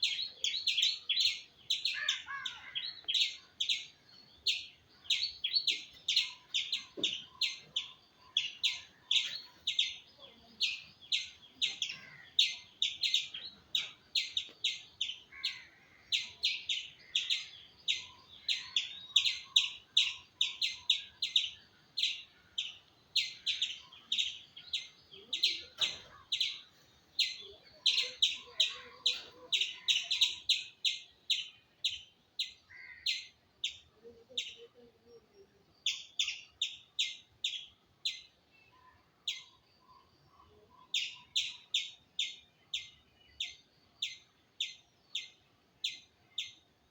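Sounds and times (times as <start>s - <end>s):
squirrel chirping call: 0.0s - 46.9s.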